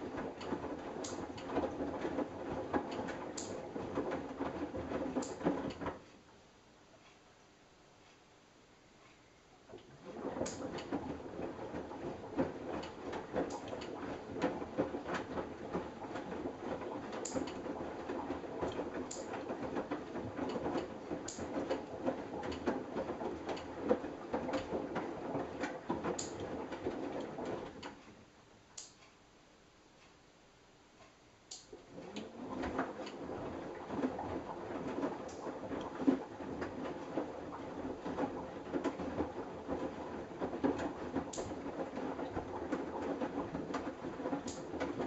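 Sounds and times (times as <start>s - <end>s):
washing machine drum tumbling laundry: 0.0s - 6.1s, 9.6s - 28.1s, 31.6s - 45.0s.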